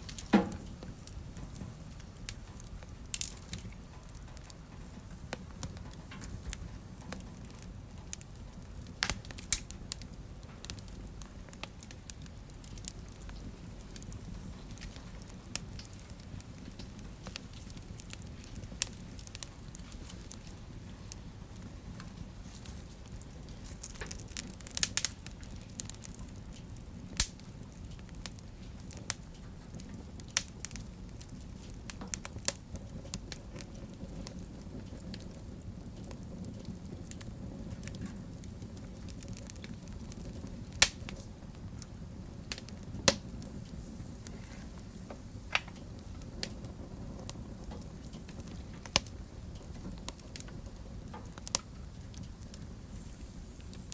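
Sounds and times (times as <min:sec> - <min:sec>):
fire crackles and pops: 0:00.0 - 0:53.9
fire flames rumbling: 0:00.0 - 0:53.9.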